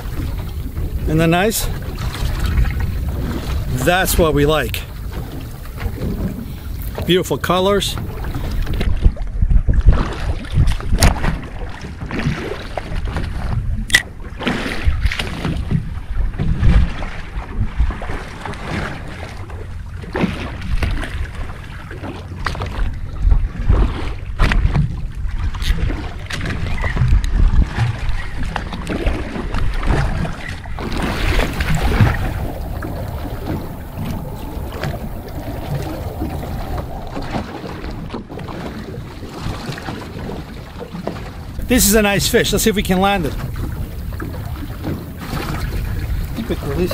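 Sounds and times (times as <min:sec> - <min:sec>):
water slapping boat hull: 0:00.0 - 0:46.9
wind buffeting microphone: 0:00.0 - 0:46.9.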